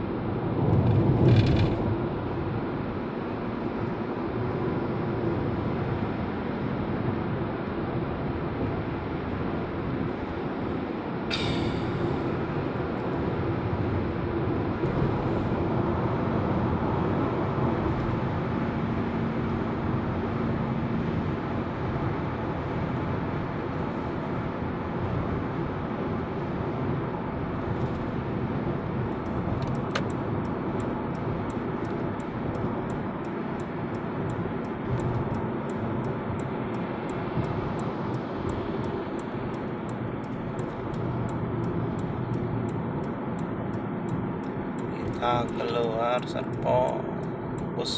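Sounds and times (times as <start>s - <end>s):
car cabin road noise: 0.0s - 47.9s.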